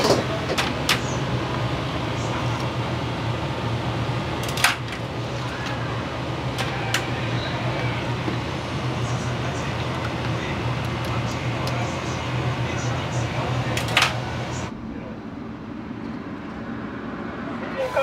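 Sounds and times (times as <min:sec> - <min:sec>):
kitchen ventilation hum: 0:00.0 - 0:18.0.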